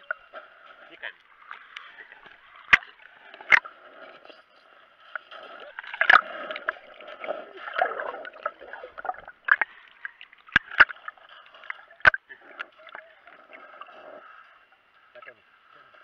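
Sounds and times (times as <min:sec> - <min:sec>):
muffled water sloshing and gurgling: 0:00.0 - 0:16.0.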